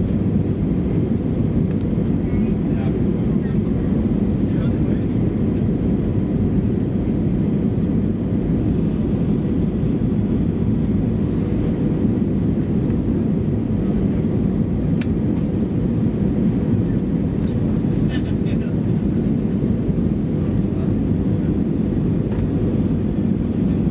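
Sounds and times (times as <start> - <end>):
airflow over fuselage: 0.0 - 23.9
jet engine rumble: 0.0 - 23.9.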